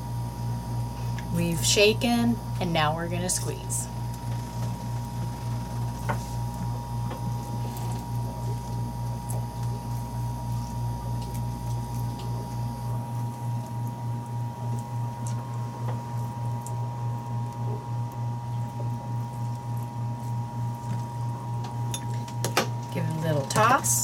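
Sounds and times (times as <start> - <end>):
pulsing low hum: 0.0 - 21.9.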